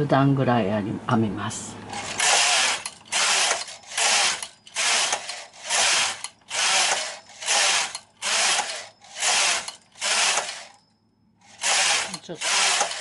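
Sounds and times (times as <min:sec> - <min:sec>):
knitting machine carriage whirring: 0:01.9 - 0:10.8, 0:11.4 - 0:13.0.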